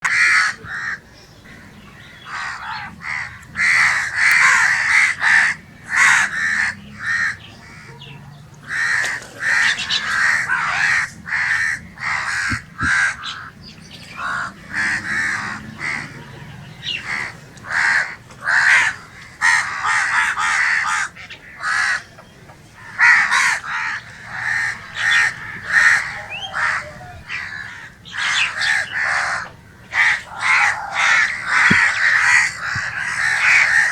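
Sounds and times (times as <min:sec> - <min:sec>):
crow cawing: 0:00.0 - 0:08.0, 0:08.6 - 0:22.1, 0:22.8 - 0:33.9.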